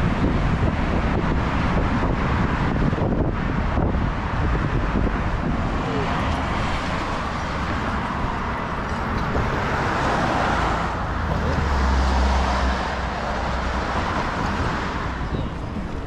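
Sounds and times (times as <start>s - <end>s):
road traffic passing: 0.0s - 16.0s
wind buffeting microphone: 0.0s - 16.0s.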